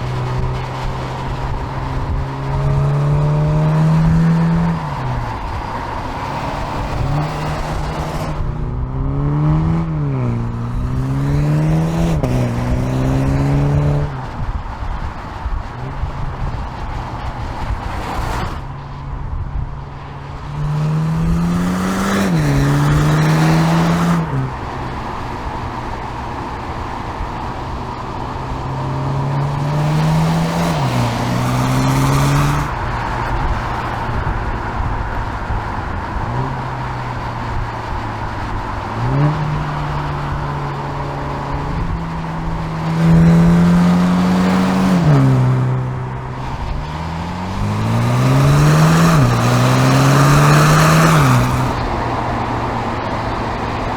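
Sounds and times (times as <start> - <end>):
car engine accelerating through gears: 0.0 - 53.9.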